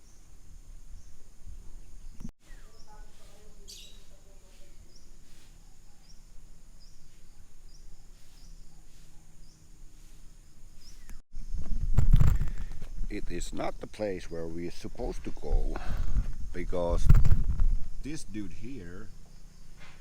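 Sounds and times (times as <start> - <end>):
birds calling: 0.0 - 11.6, 12.4 - 20.0.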